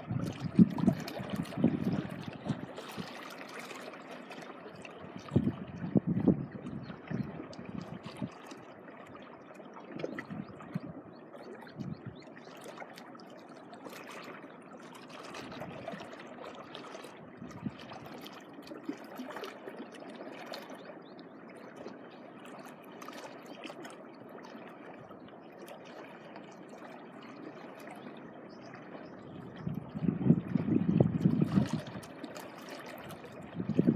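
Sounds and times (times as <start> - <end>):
small waves lapping at shoreline: 0.0 - 33.9.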